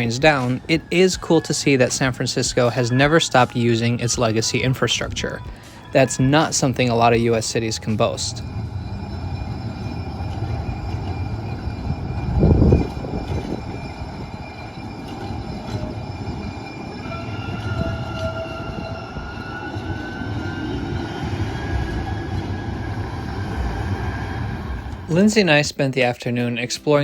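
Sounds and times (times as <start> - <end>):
thin rising whine: 0.0 - 25.5
light rail train rumbling: 0.0 - 25.7.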